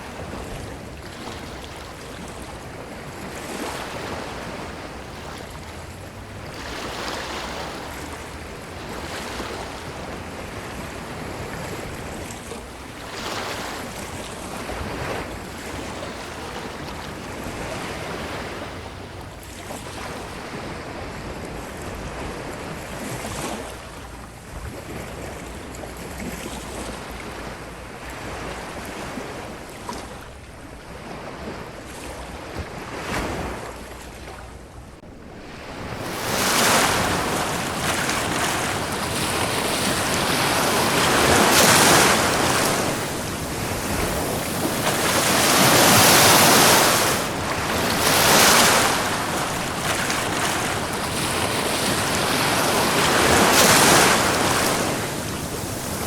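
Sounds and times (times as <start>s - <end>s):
ocean waves washing up beach: 0.0s - 56.0s.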